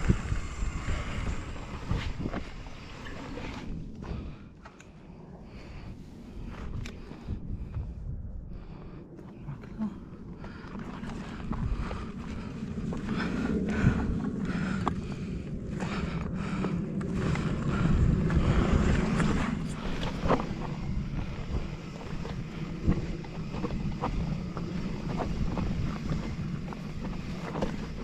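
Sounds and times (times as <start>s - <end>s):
low rumble: 0.0s - 28.0s
wind buffeting microphone: 0.0s - 28.0s.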